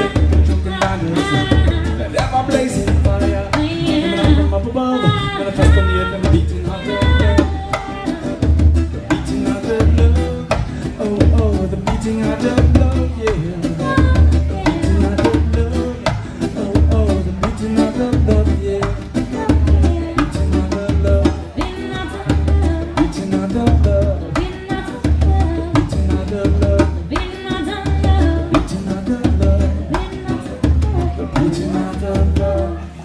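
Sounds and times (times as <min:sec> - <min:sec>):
pulsing bass line: 0:00.0 - 0:33.0
reggae band playing: 0:00.0 - 0:33.0.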